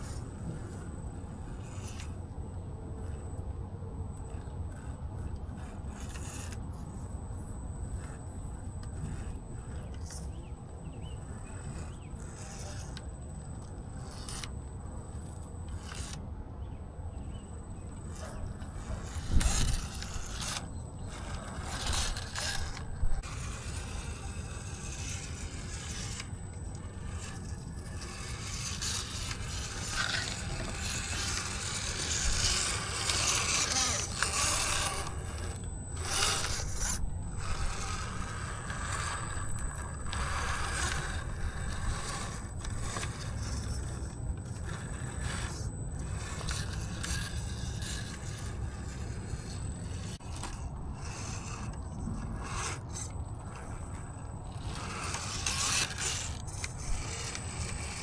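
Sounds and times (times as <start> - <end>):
faint high whine: 0.0 - 58.0
tyres scraping and grinding: 0.0 - 58.0.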